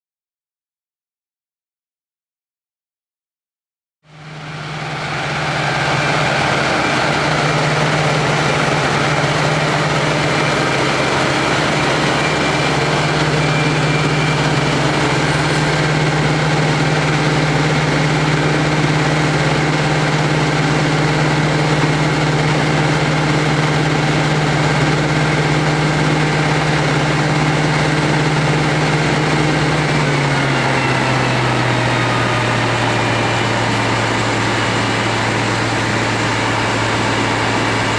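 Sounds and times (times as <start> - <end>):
diesel machinery running: 4.1 - 37.9.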